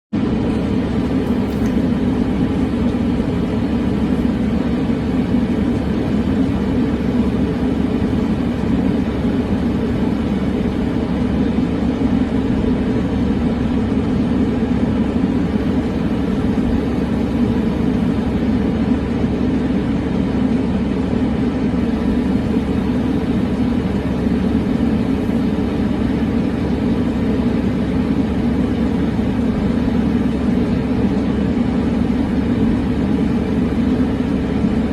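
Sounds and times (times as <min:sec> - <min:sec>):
steady rumbling noise: 0:00.1 - 0:34.9.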